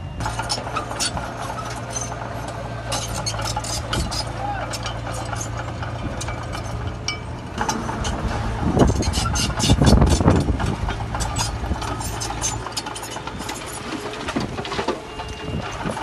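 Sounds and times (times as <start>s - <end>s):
diesel construction machine running: 0.0s - 16.0s
clattering and knocking: 0.3s - 16.0s.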